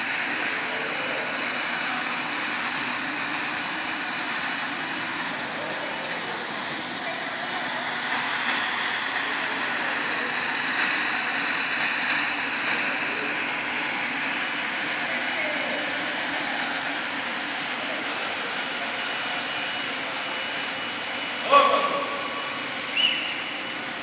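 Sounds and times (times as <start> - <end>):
floor scrubber motor whirring: 0.0 - 21.4.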